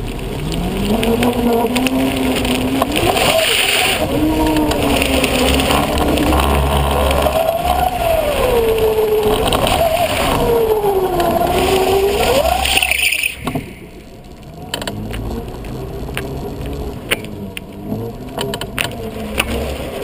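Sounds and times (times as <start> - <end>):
tyre rumble on paving: 0.0 - 20.0.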